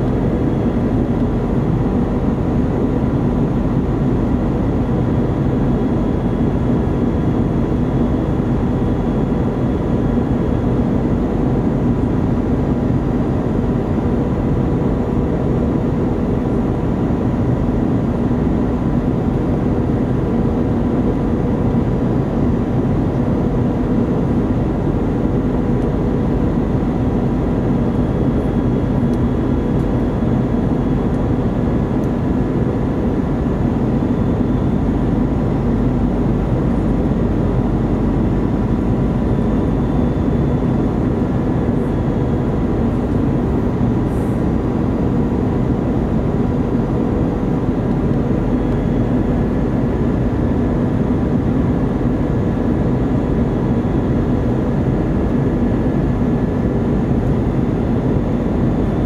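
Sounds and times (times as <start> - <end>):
jet engine and airflow rush: 0.0 - 59.0.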